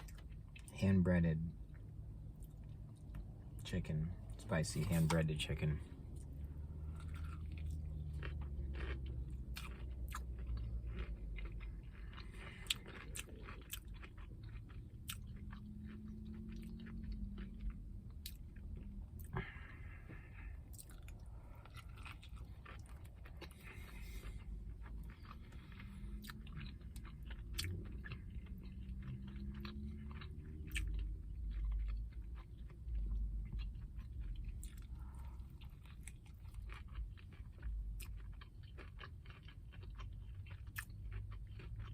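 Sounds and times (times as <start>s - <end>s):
crunchy chewing: 4.3s - 41.9s.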